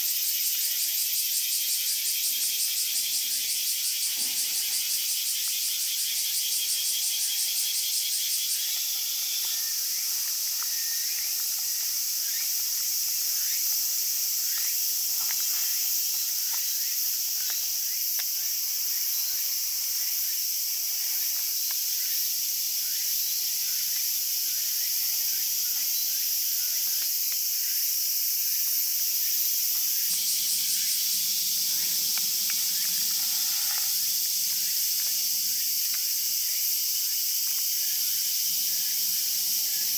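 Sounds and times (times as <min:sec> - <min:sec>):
cicada chorus: 0:00.0 - 0:39.9.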